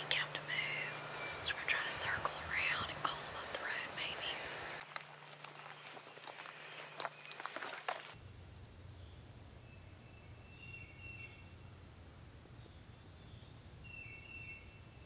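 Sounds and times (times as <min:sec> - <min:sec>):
faint songbirds calling: 0:00.0 - 0:04.8, 0:05.4 - 0:15.0.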